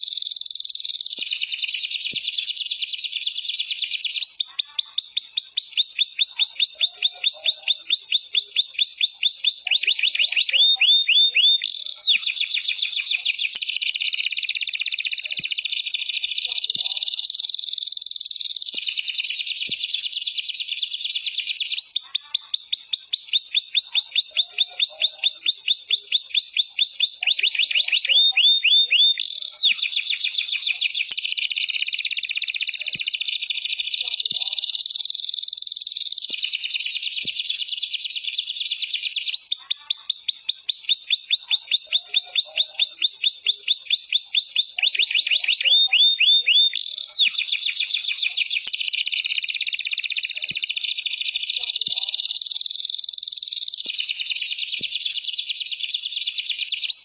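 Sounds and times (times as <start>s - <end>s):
canary singing fast trills: 0.0s - 57.0s.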